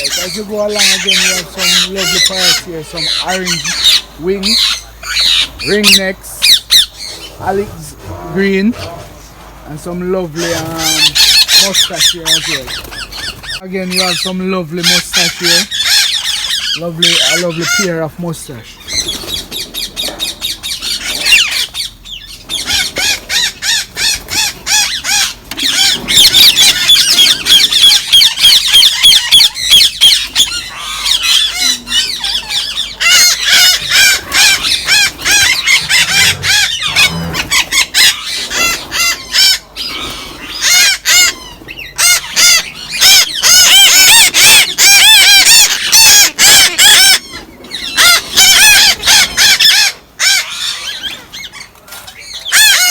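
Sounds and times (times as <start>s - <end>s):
parrots screeching and squawking: 0.0s - 52.9s.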